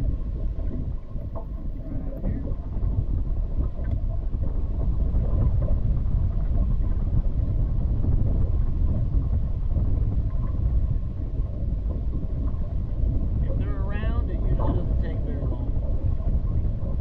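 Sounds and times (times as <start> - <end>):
faint steady hum: 0.0 - 17.0
wind buffeting microphone: 0.0 - 17.0.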